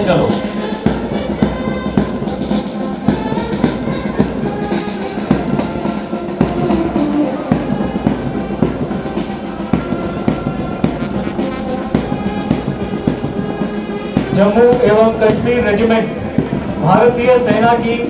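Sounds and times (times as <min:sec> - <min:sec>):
brass band playing a march: 0:00.0 - 0:18.0
steady drum beat: 0:00.0 - 0:18.0.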